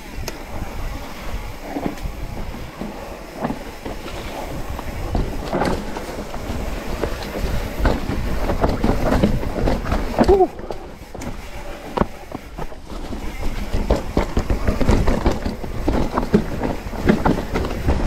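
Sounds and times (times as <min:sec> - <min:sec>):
mountain bike rattling: 0:00.0 - 0:18.0.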